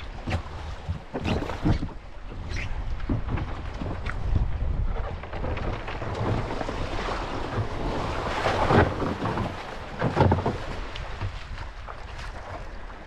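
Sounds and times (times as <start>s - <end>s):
water splashing around kayak: 0.0s - 13.0s
wind buffeting microphone: 0.0s - 13.0s.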